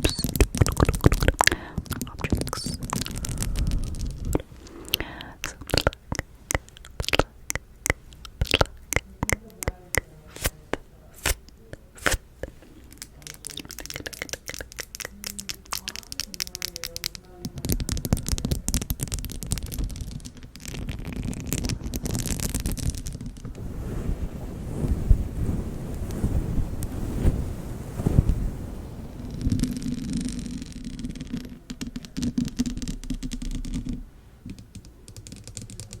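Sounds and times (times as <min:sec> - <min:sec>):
sharp clicks and crackles: 0:00.0 - 0:10.5, 0:11.2 - 0:23.6, 0:29.3 - 0:36.0
soft hiss: 0:00.0 - 0:36.0.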